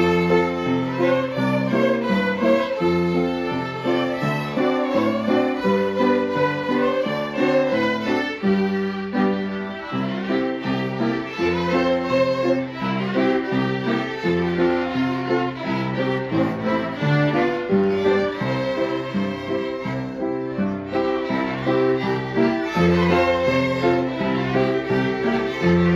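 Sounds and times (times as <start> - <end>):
fiddle ensemble playing: 0.0 - 25.9.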